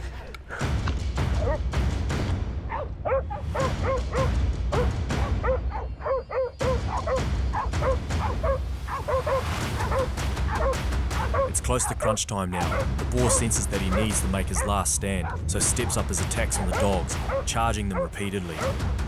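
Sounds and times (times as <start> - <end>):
dogs barking: 1.3 - 1.7, 2.7 - 19.0.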